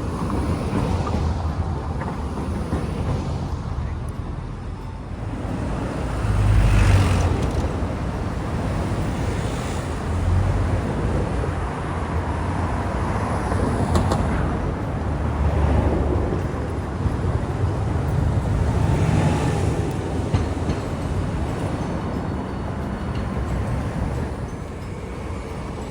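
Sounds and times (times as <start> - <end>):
vehicles passing: 0.0 - 25.9.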